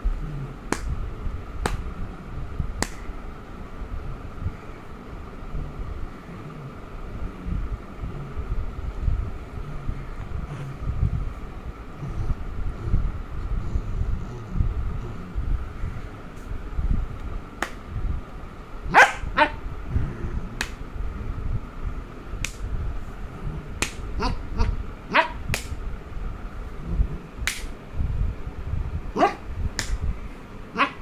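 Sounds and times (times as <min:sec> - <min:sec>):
low rubbing rumble: 0:00.0 - 0:30.5.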